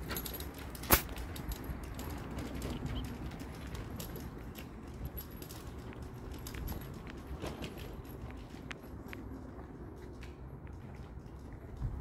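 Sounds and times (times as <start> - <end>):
footsteps on pavement: 0.0 - 12.0.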